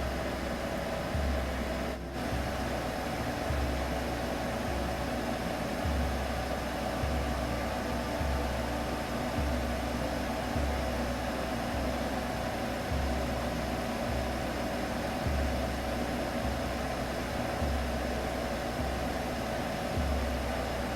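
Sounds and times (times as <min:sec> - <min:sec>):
low pulsing throb: 0:00.0 - 0:20.9
steady hum: 0:00.0 - 0:20.9
white noise hiss: 0:00.0 - 0:20.9.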